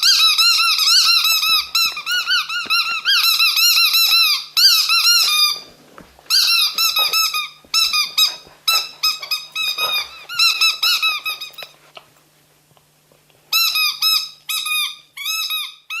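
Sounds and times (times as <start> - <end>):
squeaky dog toy squeaking: 0.0 - 5.7, 6.3 - 11.8, 13.5 - 16.0.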